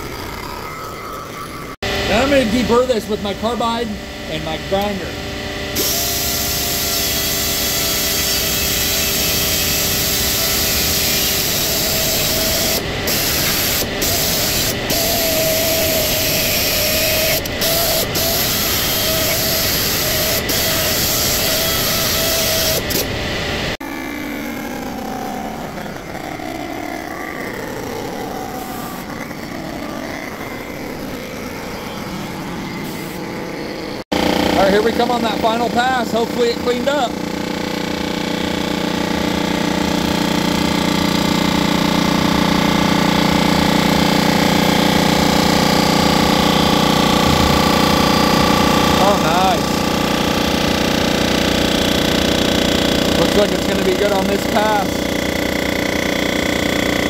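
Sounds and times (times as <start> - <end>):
air die grinder running: 0.0 - 57.0
surfacing machine running: 0.0 - 57.0.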